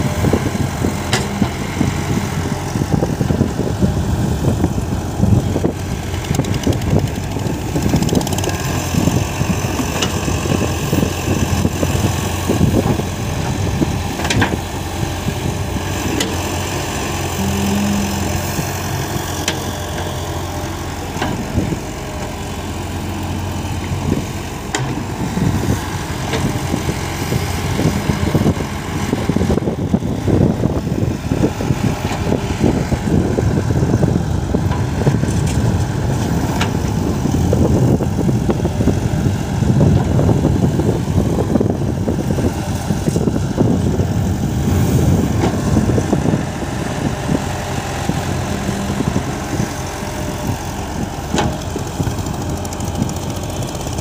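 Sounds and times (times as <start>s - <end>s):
excavator diesel engines running: 0.0s - 54.0s.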